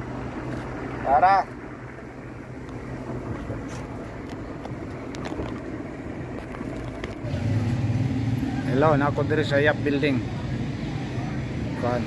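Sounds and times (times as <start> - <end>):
van engine and road drone: 0.0 - 12.0.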